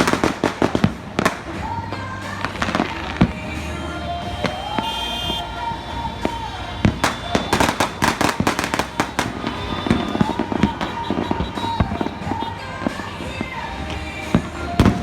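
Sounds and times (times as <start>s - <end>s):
firecrackers banging: 0.0s - 15.0s.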